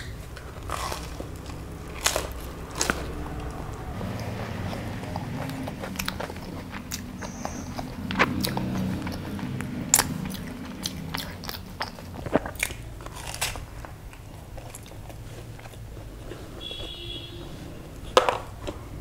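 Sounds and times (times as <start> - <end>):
crunching and chewing samosa: 0.0 - 19.0.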